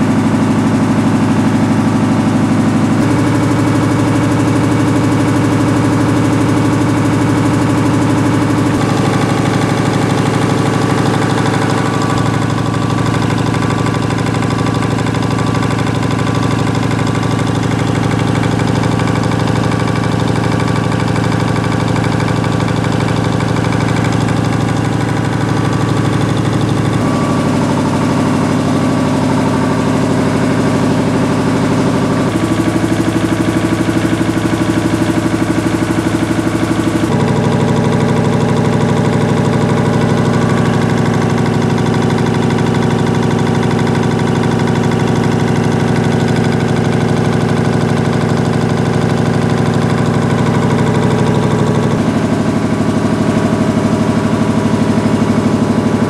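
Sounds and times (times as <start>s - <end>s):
air compressor pulsing: 0.0s - 56.0s.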